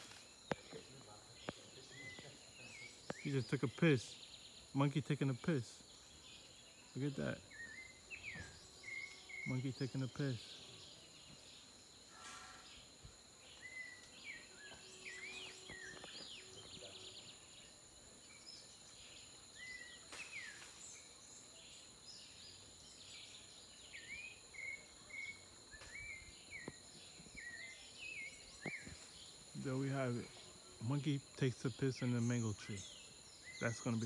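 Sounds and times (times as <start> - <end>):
faint insect drone: 0.0 - 34.0.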